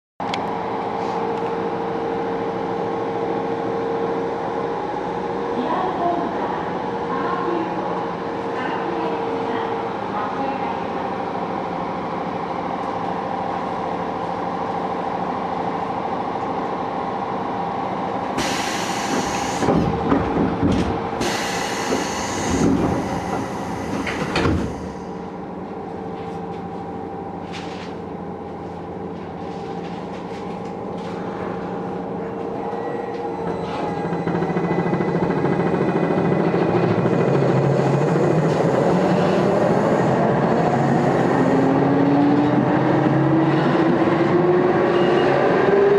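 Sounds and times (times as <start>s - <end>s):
subway equipment hum: 0.2s - 45.9s.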